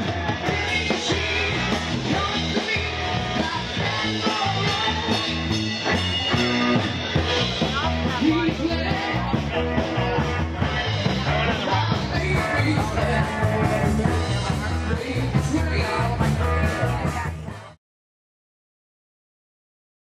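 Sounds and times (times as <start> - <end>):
rock music: 0.0 - 17.8.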